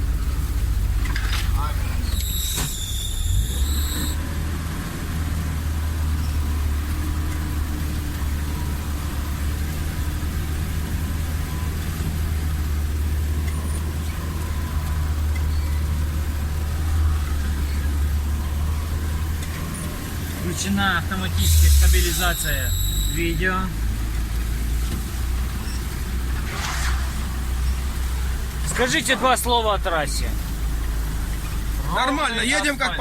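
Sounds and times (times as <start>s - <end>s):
vehicle engine droning: 0.0s - 33.0s.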